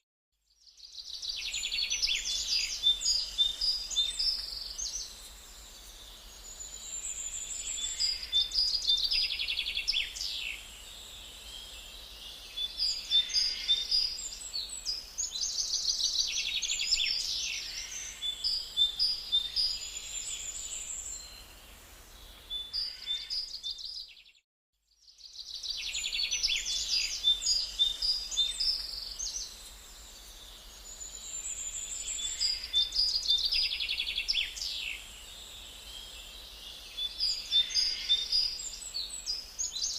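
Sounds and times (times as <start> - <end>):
songbirds singing: 0.5 - 24.4, 25.0 - 39.9.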